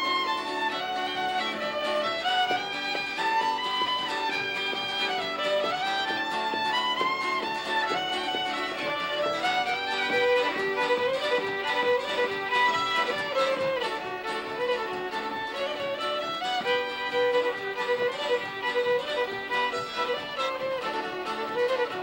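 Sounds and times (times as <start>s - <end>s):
fiddle playing a tune: 0.0s - 22.0s.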